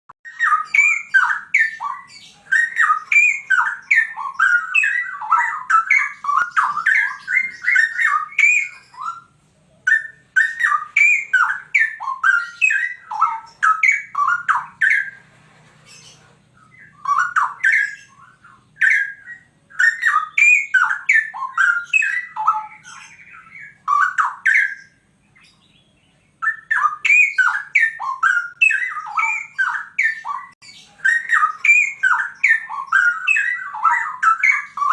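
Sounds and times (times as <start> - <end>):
bulbul singing: 0.3 - 34.9.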